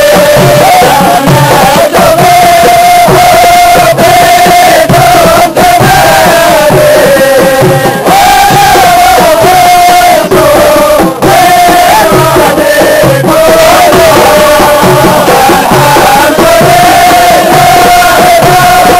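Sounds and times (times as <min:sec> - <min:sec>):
men chanting together: 0:00.0 - 0:18.9.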